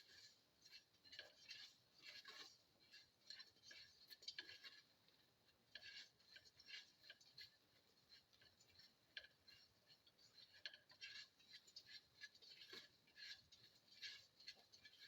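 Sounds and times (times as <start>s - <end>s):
utensil scraping in a pan: 0.0s - 15.0s.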